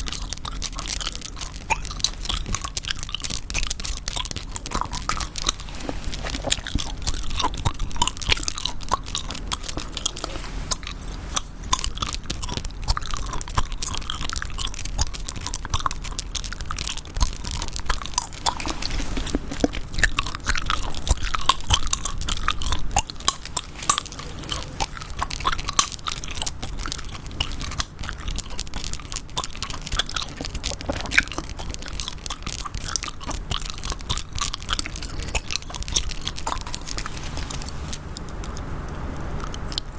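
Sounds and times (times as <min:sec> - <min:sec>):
gum chewing: 0:00.0 - 0:39.9.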